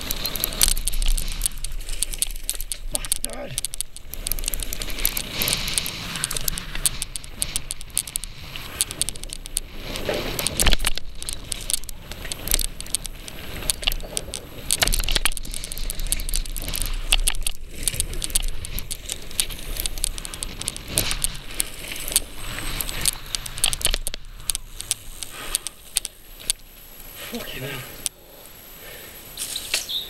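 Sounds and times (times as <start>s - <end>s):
mountain bike rattling on dirt trail: 0.0s - 28.3s.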